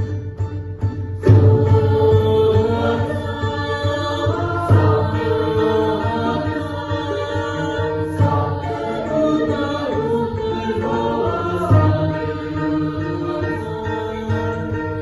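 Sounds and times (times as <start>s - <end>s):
mixed choir singing in parts: 1.3s - 15.0s.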